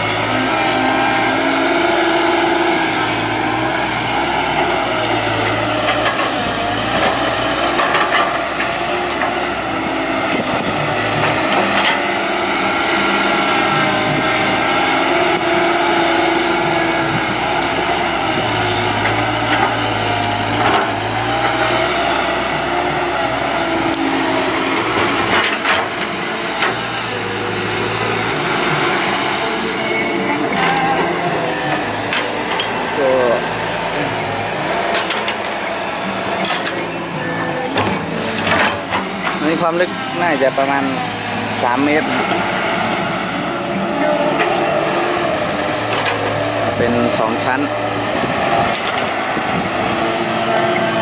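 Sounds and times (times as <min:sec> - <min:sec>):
excavator engine drone: 0:00.0 - 0:51.0.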